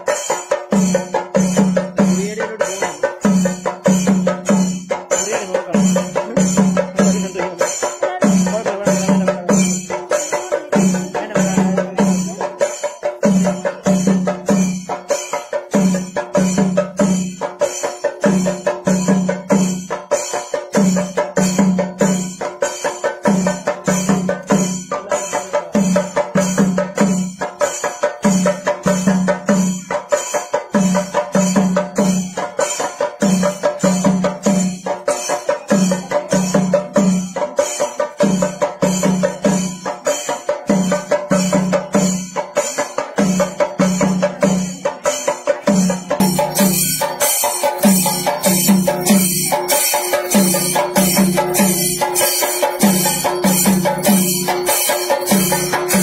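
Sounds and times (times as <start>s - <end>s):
percussion-led folk music: 0.0s - 56.0s.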